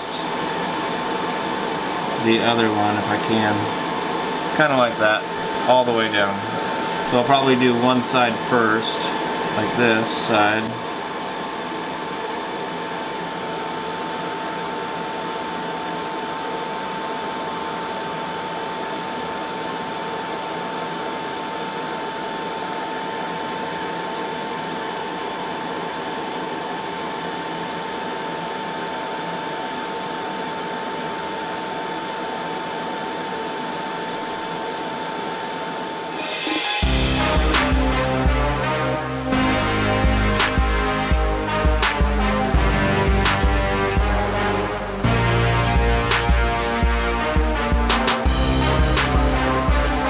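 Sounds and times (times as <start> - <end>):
extractor fan hiss and whine: 0.0 - 50.0.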